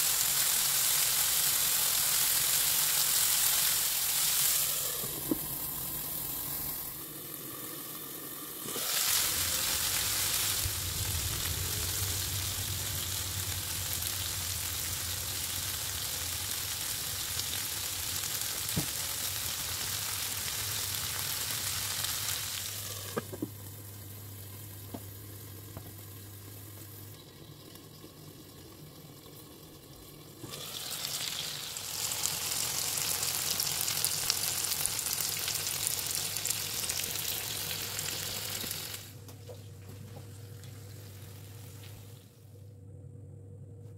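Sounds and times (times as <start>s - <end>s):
food sizzling in oil: 0.0s - 39.1s.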